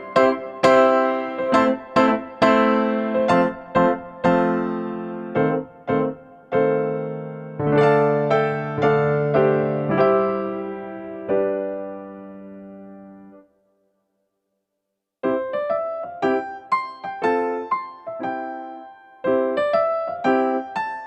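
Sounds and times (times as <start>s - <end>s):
electric piano chords: 0.0s - 13.5s, 15.2s - 21.0s.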